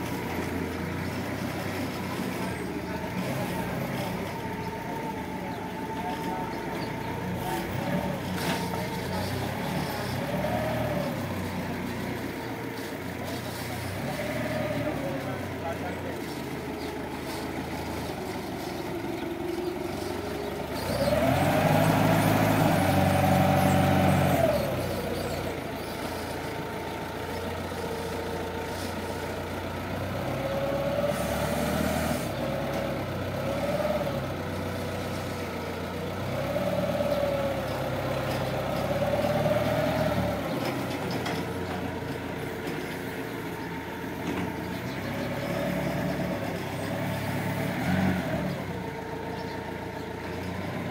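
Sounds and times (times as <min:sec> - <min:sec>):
forklift engine revving: 0:00.0 - 0:50.9.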